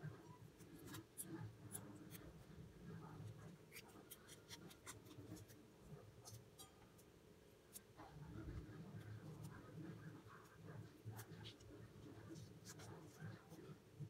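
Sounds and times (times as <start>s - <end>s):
low room noise: 0.0s - 14.0s.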